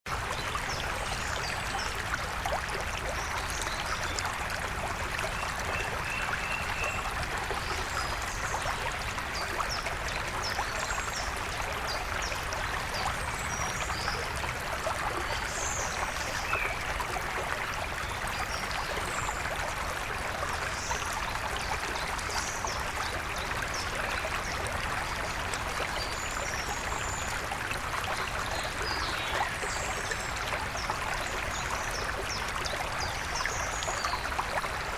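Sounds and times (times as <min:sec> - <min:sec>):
stream rushing and splashing: 0:00.1 - 0:34.9.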